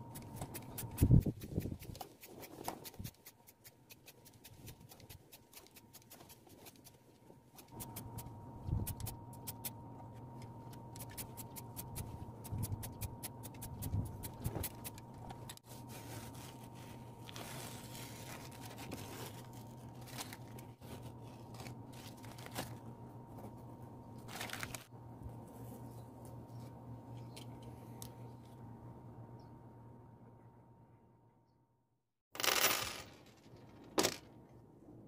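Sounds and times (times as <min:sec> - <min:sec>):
faint steady hum: 0:02.8 - 0:31.5.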